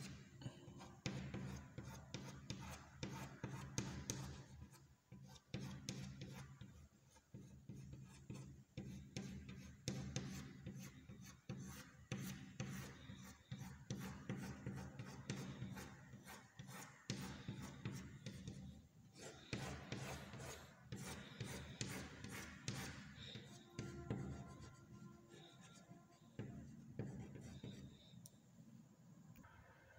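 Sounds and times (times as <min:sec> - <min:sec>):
chalk scraping on chalkboard: 0:00.0 - 0:28.0.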